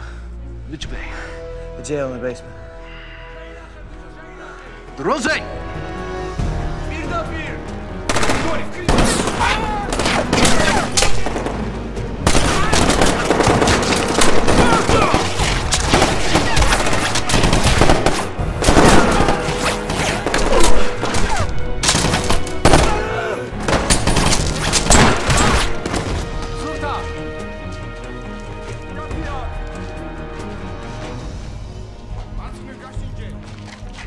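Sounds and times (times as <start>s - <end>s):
film score music: 0.0s - 34.0s.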